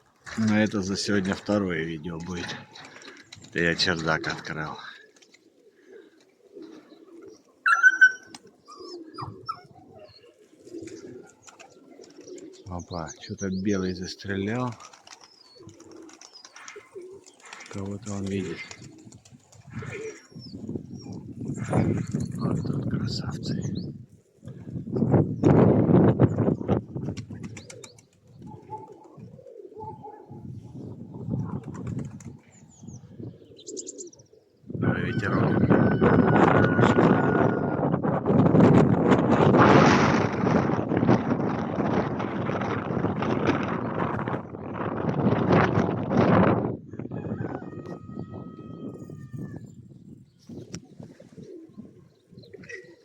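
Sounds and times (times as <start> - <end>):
pigeons cooing: 0.0 - 38.0, 38.7 - 53.0.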